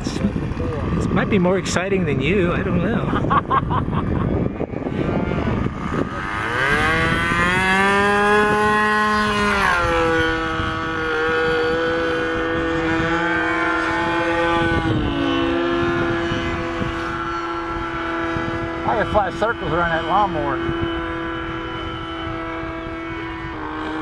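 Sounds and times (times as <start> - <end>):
model airplane motor and propeller: 0.0 - 24.0.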